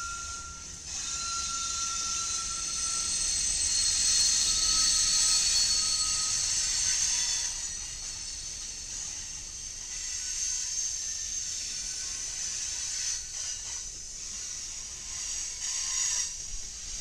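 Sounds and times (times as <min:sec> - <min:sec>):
freight train wheels hissing: 0:00.0 - 0:17.0.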